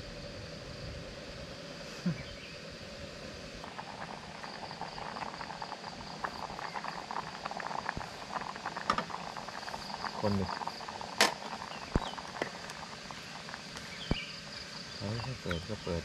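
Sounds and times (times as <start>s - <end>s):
insects chirring: 0.0s - 16.0s
porridge bubbling in pot: 0.0s - 16.0s.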